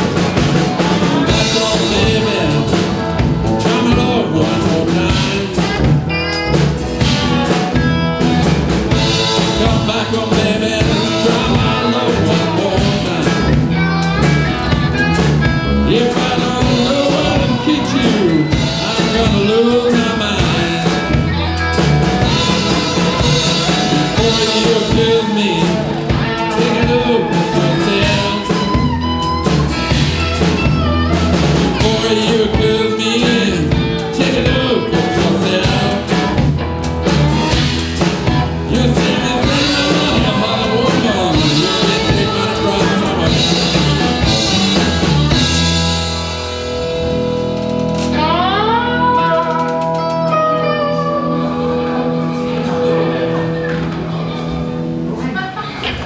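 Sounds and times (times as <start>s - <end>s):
drum kit: 0.0s - 55.2s
guitar gliding up in pitch: 0.0s - 55.4s
blues band playing: 0.0s - 56.0s.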